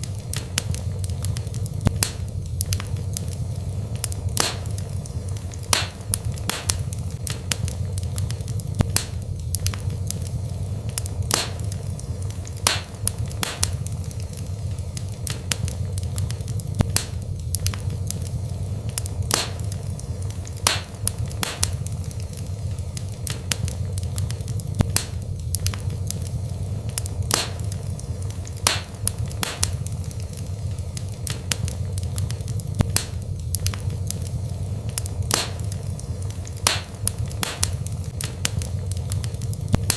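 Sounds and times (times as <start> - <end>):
fire rumbling: 0.0 - 39.9
wood crackling and popping: 0.0 - 39.9.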